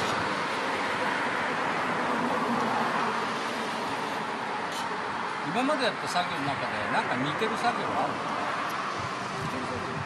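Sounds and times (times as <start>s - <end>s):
road traffic rushing: 0.0s - 10.0s.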